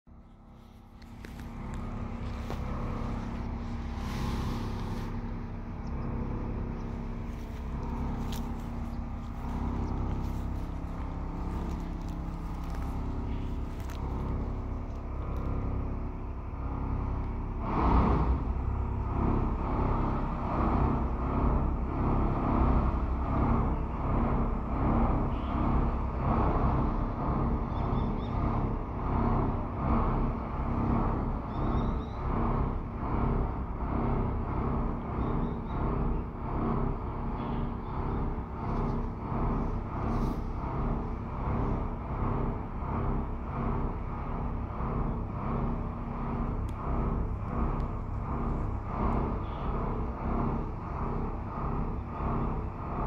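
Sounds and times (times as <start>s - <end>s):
deep machine rumble: 0.0s - 53.0s
industrial machinery hum: 0.0s - 53.0s
pulsing grind: 0.1s - 53.0s.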